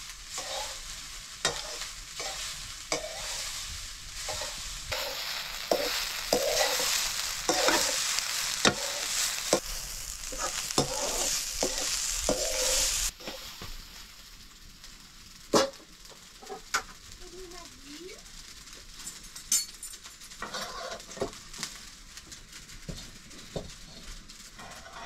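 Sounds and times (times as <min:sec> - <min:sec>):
rice sizzling in a wok: 0:00.0 - 0:25.0.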